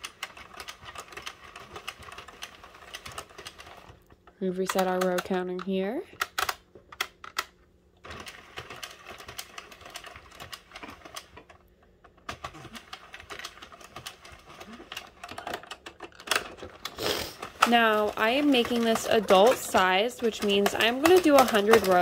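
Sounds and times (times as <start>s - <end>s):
knitting machine clicks: 0.0s - 4.0s, 4.6s - 11.6s, 12.2s - 22.0s
knitting machine needles clattering: 0.0s - 22.0s.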